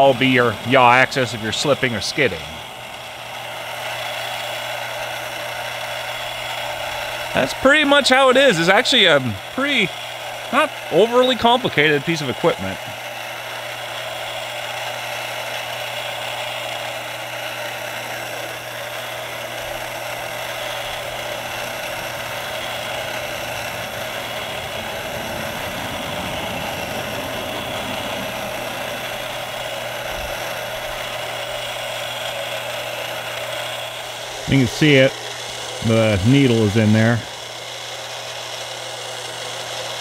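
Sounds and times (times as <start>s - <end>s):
electric gyro whirring: 0.0s - 40.0s.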